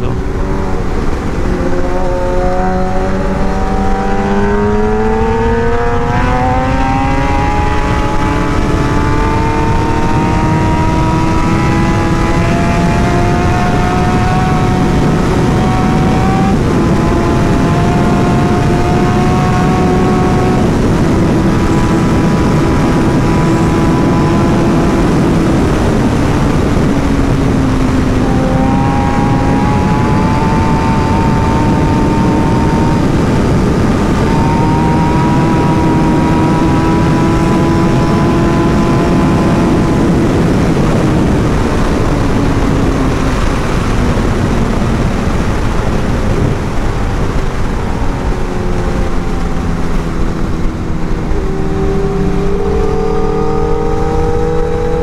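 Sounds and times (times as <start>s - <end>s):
heavy wind rush: 0.0s - 55.0s
motorcycle engine: 0.0s - 55.0s.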